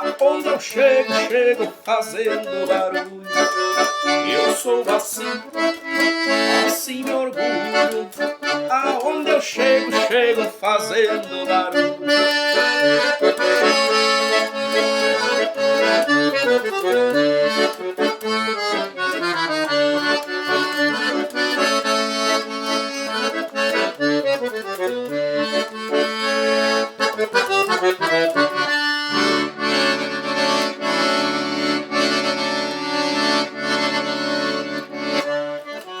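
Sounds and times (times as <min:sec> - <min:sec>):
accordion instrumental music: 0:00.0 - 0:36.0.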